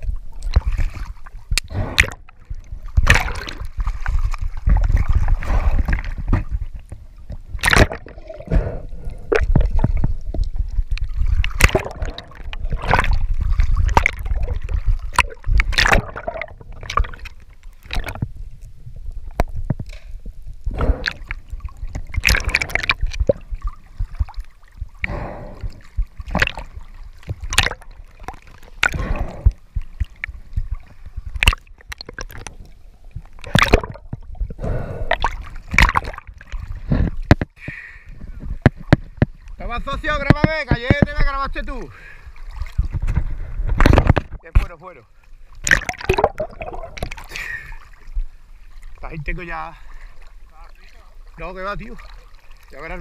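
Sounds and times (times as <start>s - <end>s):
water sloshing and gurgling: 0.0s - 53.0s.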